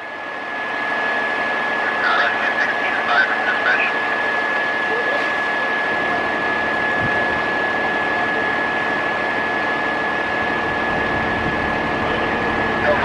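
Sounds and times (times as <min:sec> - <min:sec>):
constant high whine: 0:00.0 - 0:13.0
diesel engine running: 0:00.0 - 0:13.0.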